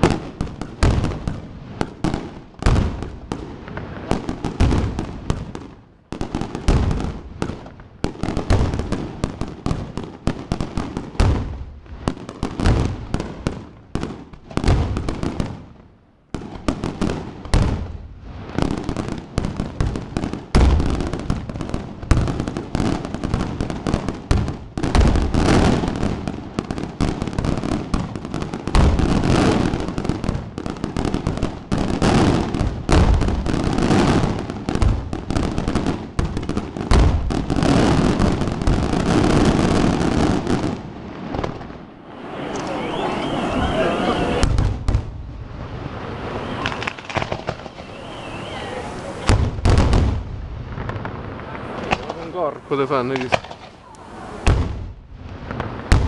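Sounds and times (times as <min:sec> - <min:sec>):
fireworks bangs: 0:00.0 - 0:56.0.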